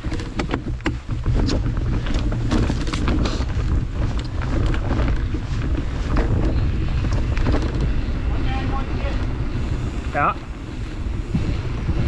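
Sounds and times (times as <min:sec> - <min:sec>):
bike clicks and rattles: 0:00.0 - 0:12.0
steady rumble: 0:00.0 - 0:12.0
wind buffeting microphone: 0:00.0 - 0:12.0.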